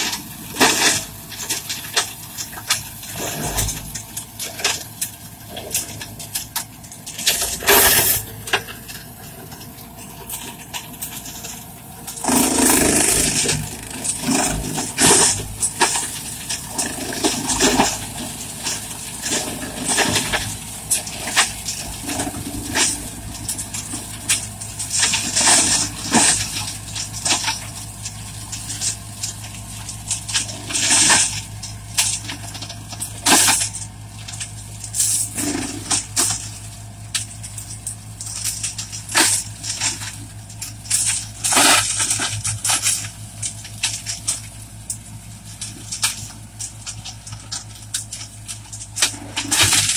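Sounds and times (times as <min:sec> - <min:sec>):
branches cracking and clattering: 0:00.0 - 0:49.9
tractor engine and rotor drone: 0:00.0 - 0:49.9.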